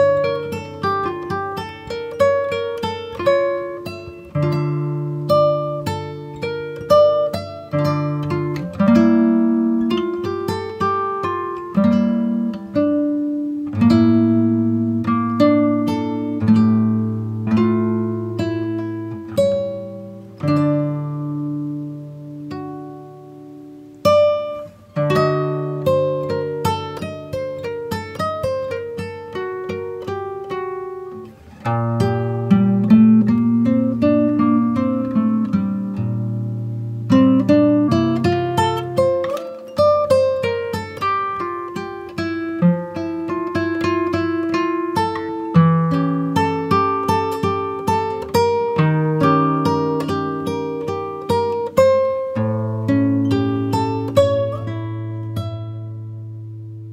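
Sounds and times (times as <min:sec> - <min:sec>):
plucked acoustic guitar: 0:00.0 - 0:56.9.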